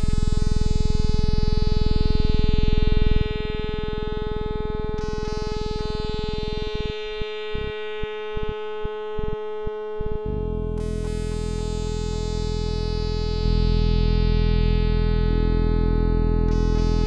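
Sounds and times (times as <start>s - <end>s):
fast buzzing low synth pulse: 0.0s - 17.0s.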